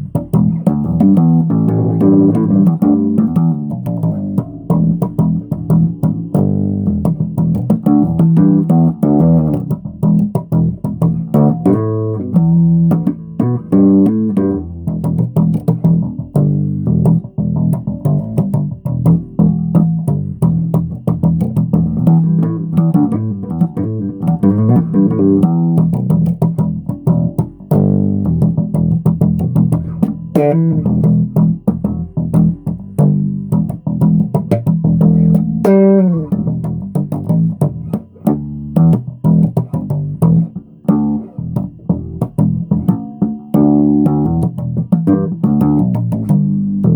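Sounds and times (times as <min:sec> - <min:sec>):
solo bass guitar: 0:00.0 - 0:46.9.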